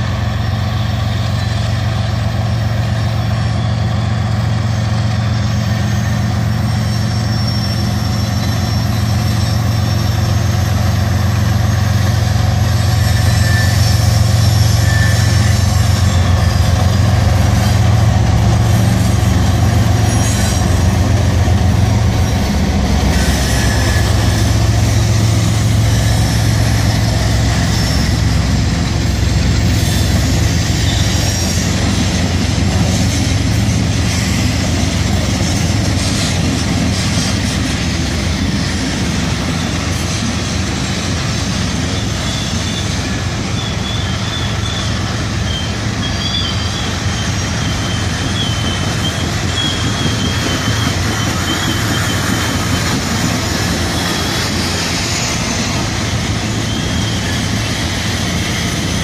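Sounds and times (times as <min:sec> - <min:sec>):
train wheels rumbling on rails: 0:00.0 - 0:59.0
wheels squealing against rails: 0:00.0 - 0:59.0.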